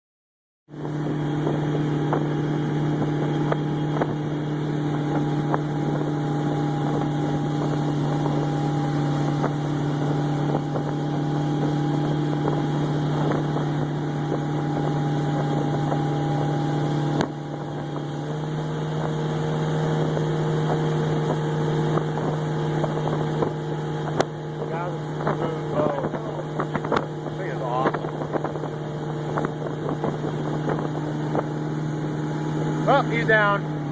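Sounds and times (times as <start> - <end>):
boat motor running: 0.7 - 33.9
wind buffeting microphone: 0.7 - 33.9.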